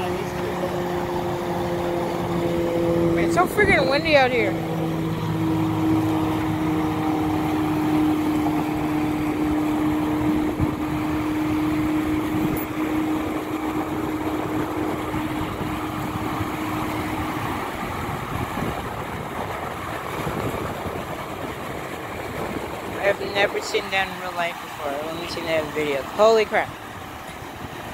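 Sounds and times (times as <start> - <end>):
engine droning: 0.0 - 27.9
waves washing over rocks: 0.0 - 27.9
wind on microphone: 0.0 - 27.9.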